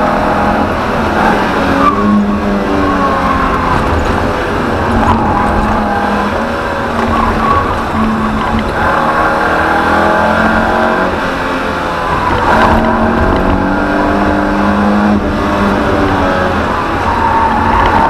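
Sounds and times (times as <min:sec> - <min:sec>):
car engine revving in cabin: 0:00.0 - 0:17.0.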